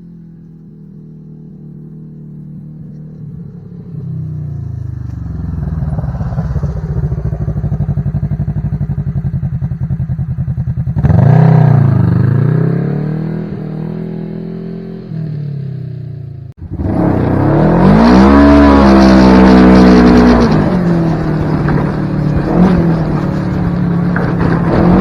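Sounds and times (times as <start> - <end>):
engine exhaust drone: 0.0 - 25.0.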